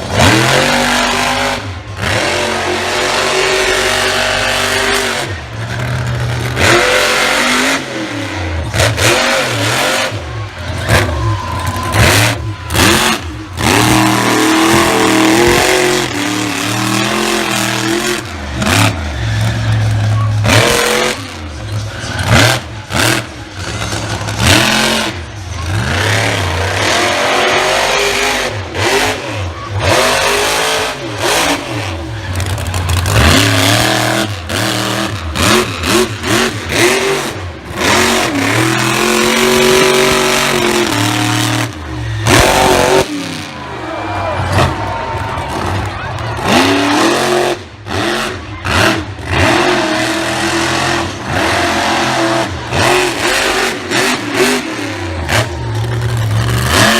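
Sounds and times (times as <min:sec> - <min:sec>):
monster truck engine revving: 0:00.0 - 0:56.9.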